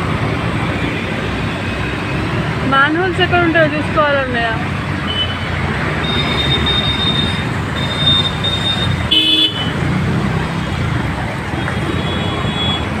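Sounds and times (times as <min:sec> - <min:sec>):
traffic through floodwater: 0:00.0 - 0:13.0.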